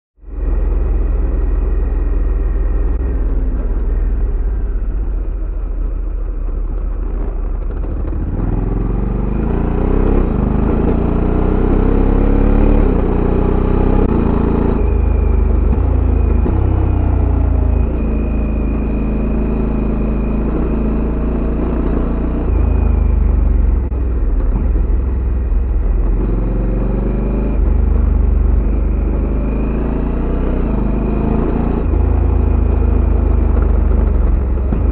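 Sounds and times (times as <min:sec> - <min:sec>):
motorcycle engine idling and revving: 0:00.2 - 0:34.9.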